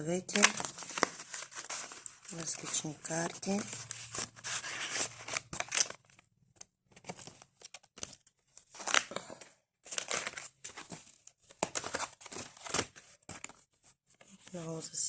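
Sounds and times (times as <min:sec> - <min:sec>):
paper rustling and crinkling: 0:00.3 - 0:14.8.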